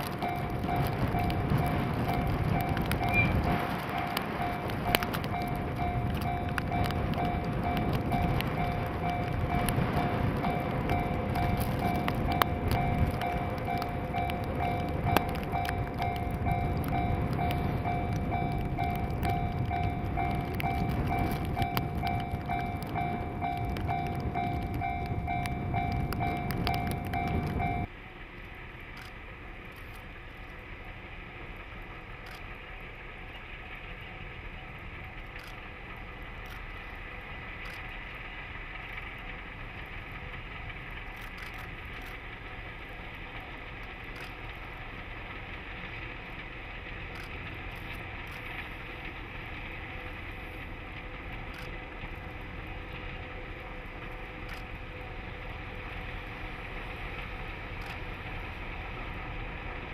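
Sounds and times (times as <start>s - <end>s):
faint constant whine: 0.0s - 59.9s
snow plough engine rumble: 0.0s - 59.9s.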